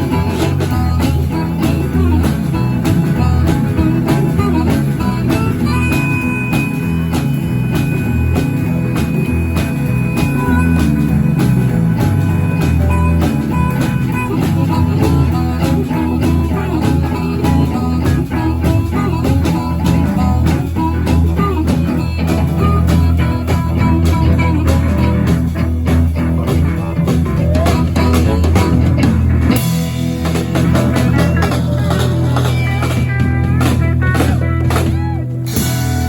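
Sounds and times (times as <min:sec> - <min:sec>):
drum kit beat: 0:00.0 - 0:36.0
guitar: 0:00.0 - 0:36.0.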